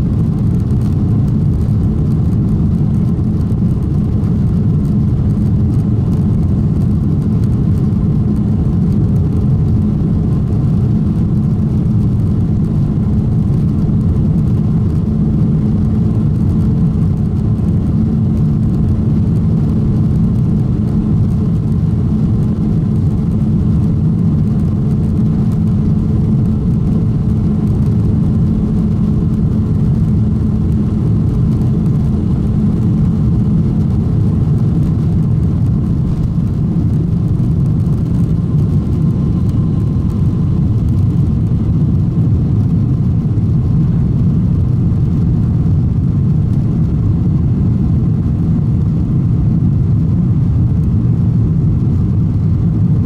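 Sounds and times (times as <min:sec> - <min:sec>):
jet engines roaring on takeoff: 0:00.0 - 0:53.0.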